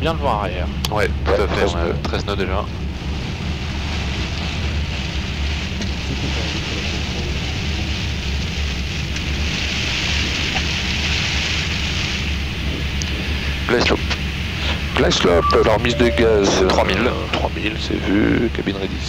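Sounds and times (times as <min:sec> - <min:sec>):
aircraft cockpit rumble and hiss: 0:00.0 - 0:19.0.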